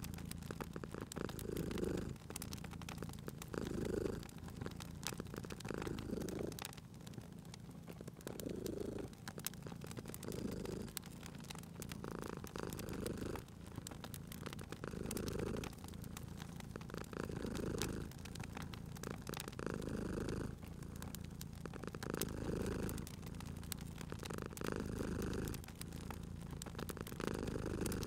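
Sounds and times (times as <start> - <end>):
cat purring: 0.0 - 28.0
wood fire crackling: 0.0 - 28.0.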